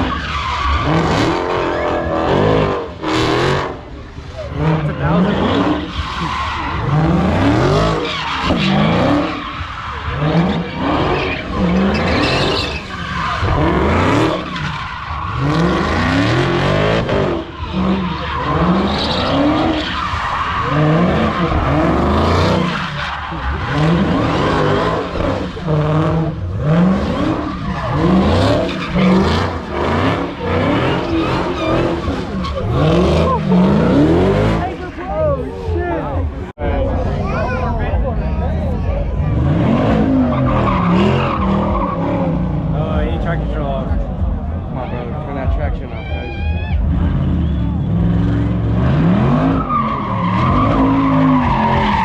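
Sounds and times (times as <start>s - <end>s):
tyres skidding on pavement: 0.0s - 38.2s, 38.9s - 52.0s
car engine revving: 0.0s - 52.0s.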